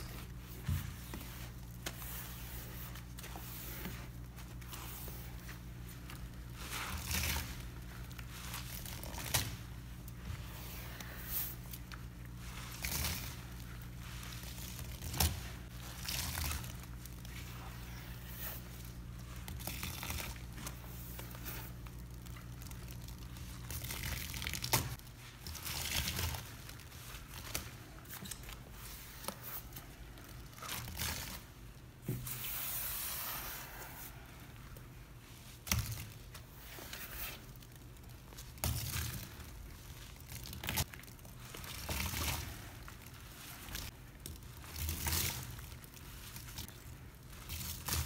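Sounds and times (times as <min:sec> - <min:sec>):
squishy sponge squeezes: 0:00.0 - 0:48.0.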